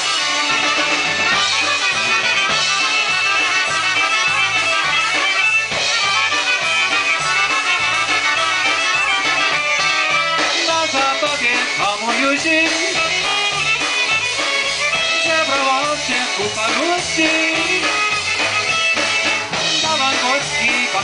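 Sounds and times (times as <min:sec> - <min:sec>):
trumpets: 0:00.0 - 0:20.8
accordion: 0:00.0 - 0:21.0
electric bass guitar: 0:00.0 - 0:21.0
fiddle: 0:00.0 - 0:21.0
steady drum beat: 0:00.0 - 0:21.0.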